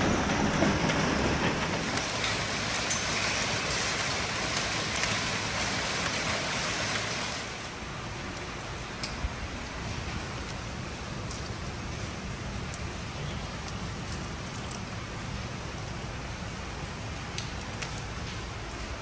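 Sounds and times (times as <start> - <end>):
rain and hail on concrete: 0.0 - 19.0.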